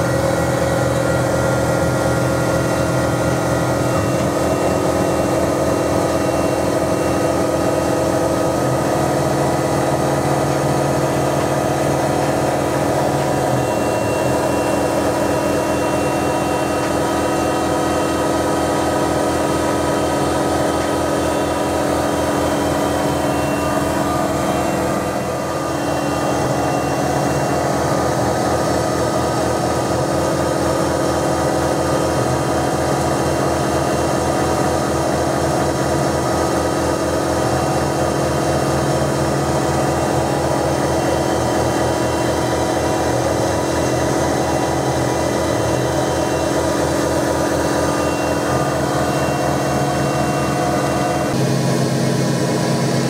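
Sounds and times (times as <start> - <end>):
milling machine running: 0.0 - 53.0.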